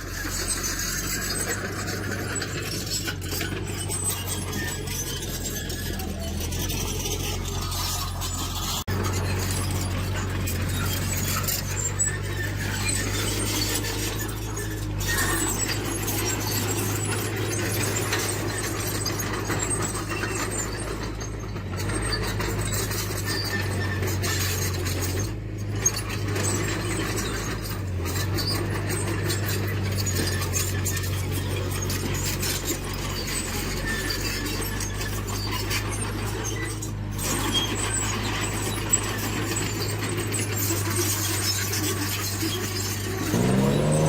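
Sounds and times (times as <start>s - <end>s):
diesel engine running: 0.0s - 44.0s
steel tracks squealing and clinking: 0.0s - 44.0s.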